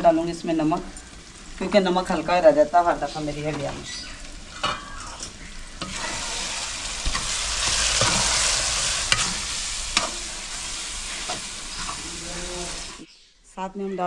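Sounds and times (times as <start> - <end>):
masala sizzling in a pot: 0.0 - 13.1.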